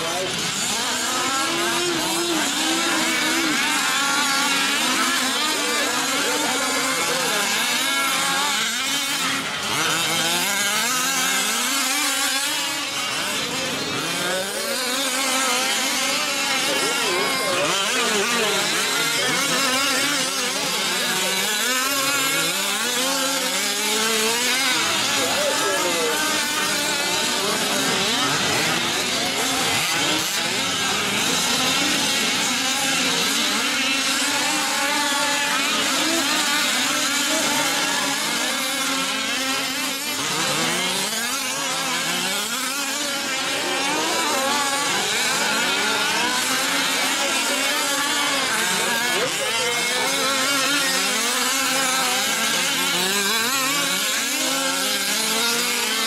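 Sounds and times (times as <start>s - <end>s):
small two-stroke engines revving: 0.0s - 56.0s.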